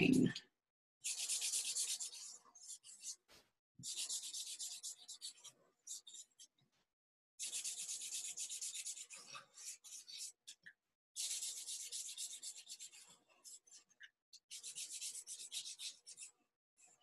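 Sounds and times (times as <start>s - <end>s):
marker scribbling on paper: 1.0s - 6.5s, 7.4s - 10.6s, 11.2s - 16.3s.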